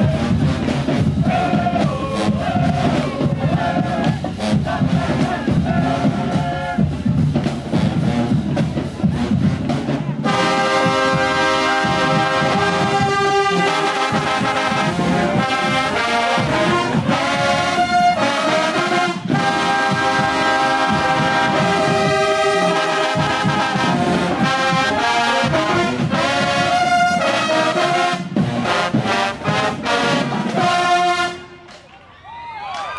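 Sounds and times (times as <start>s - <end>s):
brass band playing chords: 0.0s - 31.8s.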